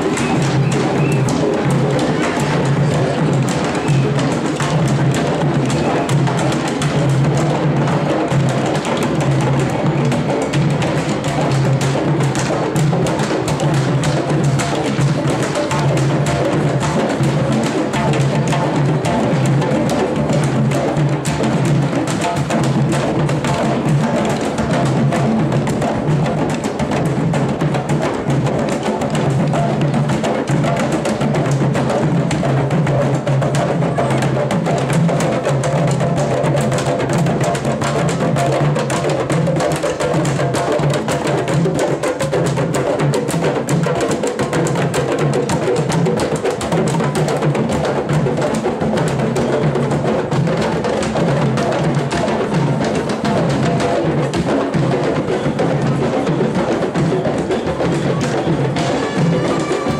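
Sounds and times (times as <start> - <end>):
drum ensemble playing: 0.0 - 59.9.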